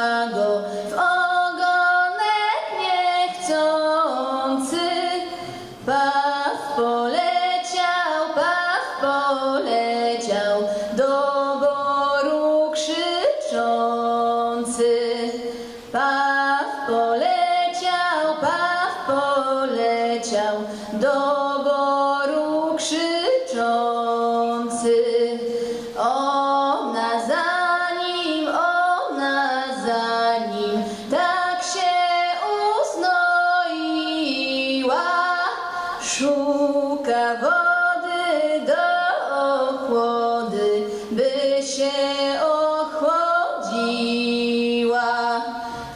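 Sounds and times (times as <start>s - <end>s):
unaccompanied folk choir singing: 0.0s - 45.7s.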